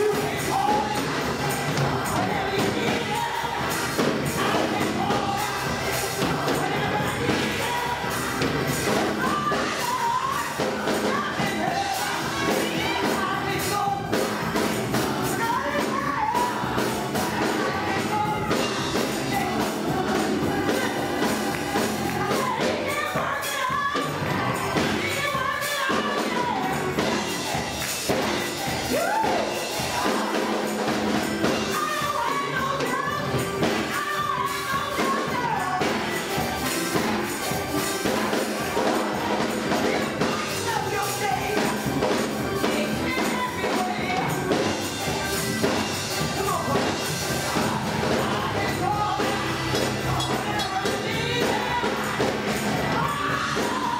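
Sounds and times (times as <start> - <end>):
gospel choir singing: 0.0 - 53.9
lead singer: 0.0 - 53.9
live band with percussion: 0.0 - 53.9.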